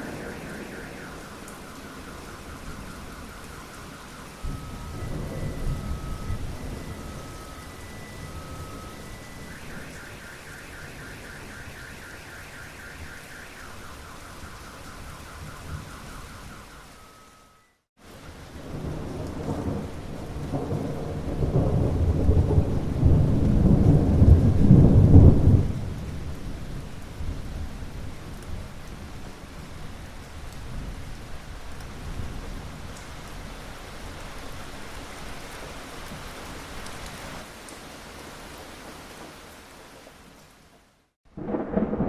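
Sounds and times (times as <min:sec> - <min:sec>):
thunder rumbling: 0:00.0 - 0:17.4, 0:18.4 - 0:36.7, 0:41.3 - 0:42.0
steady rain falling: 0:00.0 - 0:42.0.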